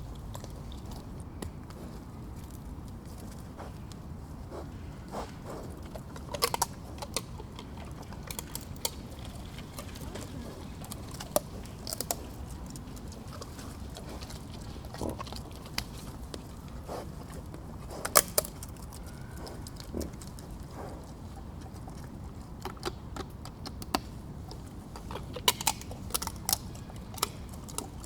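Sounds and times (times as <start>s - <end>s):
boar chewing: 0.0s - 28.0s.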